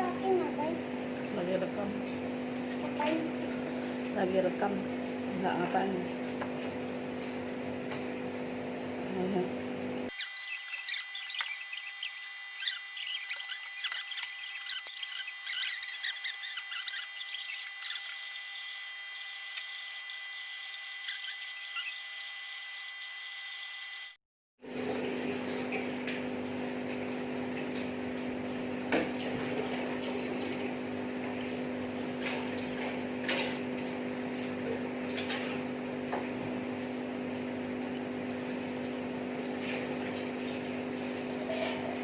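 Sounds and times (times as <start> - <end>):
mechanical hum: 0.0 - 42.0.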